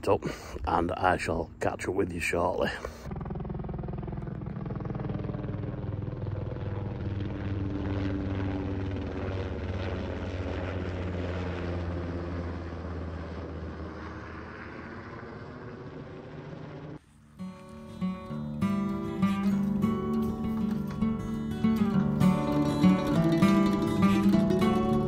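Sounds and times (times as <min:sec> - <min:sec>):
helicopter rotor beating: 0:00.8 - 0:25.0.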